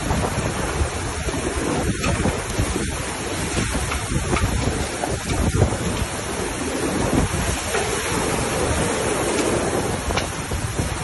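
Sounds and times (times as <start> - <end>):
floodwater rushing: 0.0 - 11.0
wind rumbling on microphone: 0.0 - 11.0.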